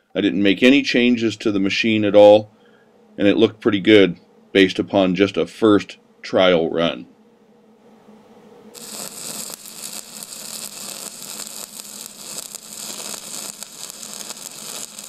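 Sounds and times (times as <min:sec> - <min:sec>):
steady crackling hiss: 0:00.0 - 0:15.0.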